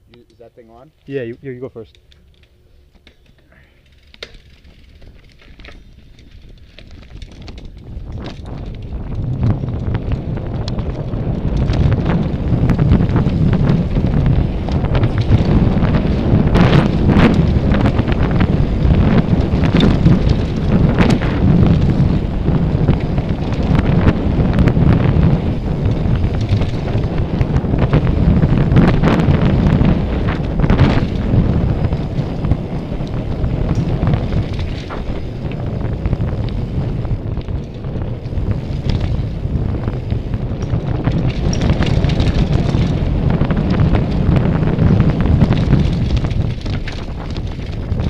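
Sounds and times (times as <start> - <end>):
bike rattling over rocks: 1.2 - 48.0
wind buffeting microphone: 4.0 - 48.0.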